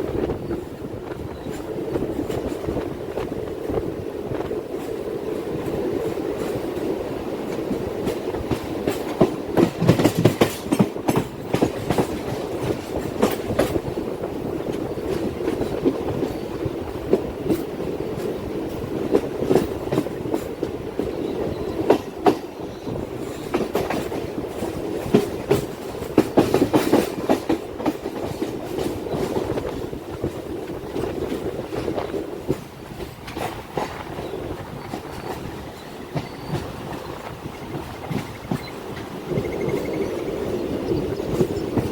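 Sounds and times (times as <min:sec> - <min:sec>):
train rumbling along track: 0:00.0 - 0:41.9
wheels clacking over rail joints: 0:00.5 - 0:41.9.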